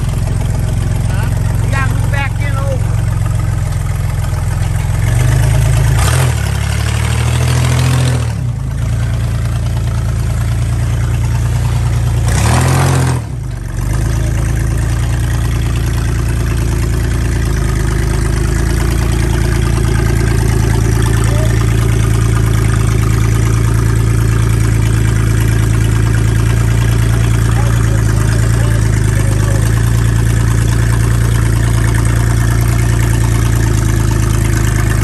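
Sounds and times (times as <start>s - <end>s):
car engine revving and idling: 0.0s - 35.0s.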